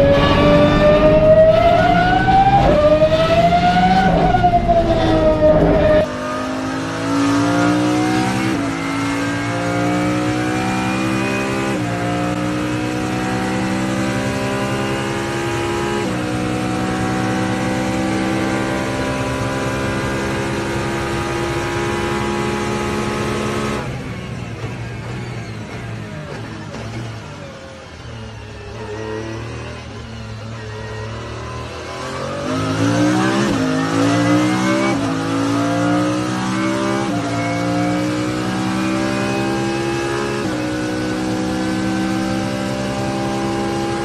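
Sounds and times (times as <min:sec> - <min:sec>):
car engine revving through gears: 0:00.0 - 0:44.0.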